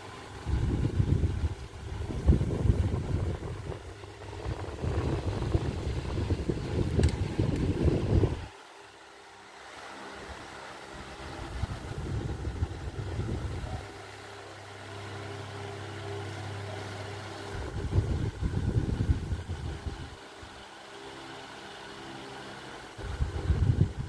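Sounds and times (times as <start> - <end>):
fan airflow rumbling on microphone: 0.0 - 24.0
fan motor humming: 0.0 - 24.0.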